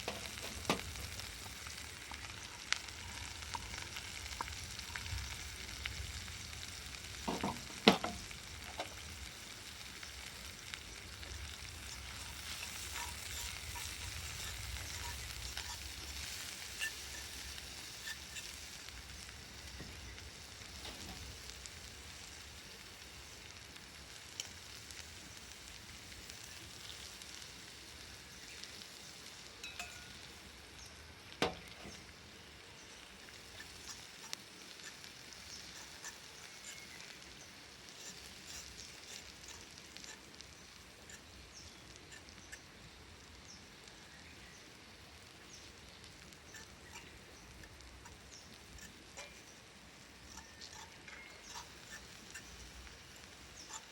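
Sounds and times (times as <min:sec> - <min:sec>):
food sizzling in a skillet: 0:00.0 - 0:53.9.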